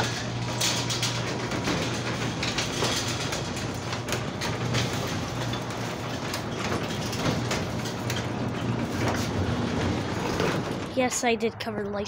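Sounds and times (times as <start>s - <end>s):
garage door opener motor hum: 0.0s - 11.0s
garage door clicks and rattles: 0.0s - 11.1s.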